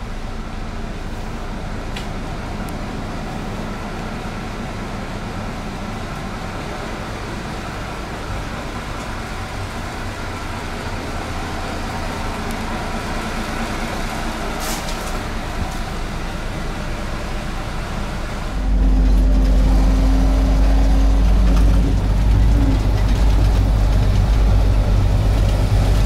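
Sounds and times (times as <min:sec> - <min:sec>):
diesel bus engine running: 0:00.0 - 0:26.0.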